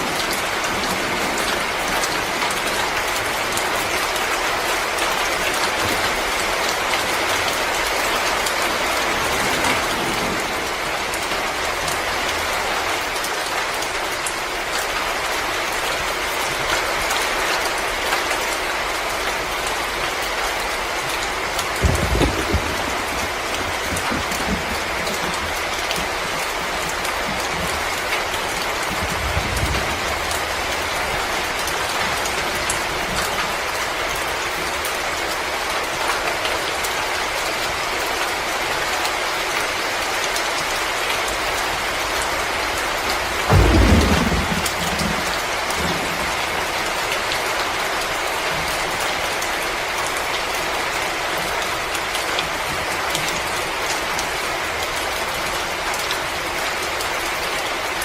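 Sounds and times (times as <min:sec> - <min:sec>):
rain-like hiss with crackles: 0:00.0 - 0:58.0.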